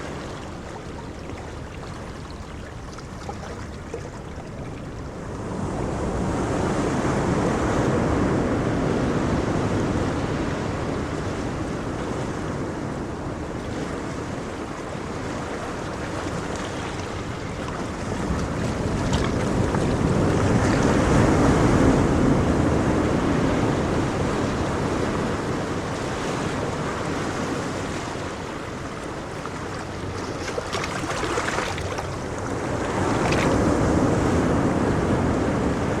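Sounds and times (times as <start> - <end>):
ocean waves breaking: 0.0 - 36.0
wind on microphone: 0.0 - 36.0.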